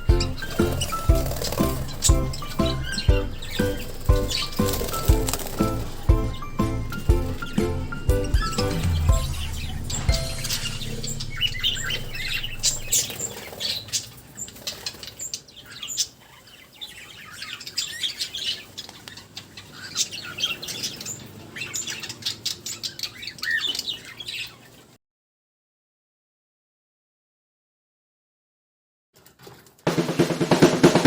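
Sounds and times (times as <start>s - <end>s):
caged birds chirping and chattering: 0.0s - 25.0s.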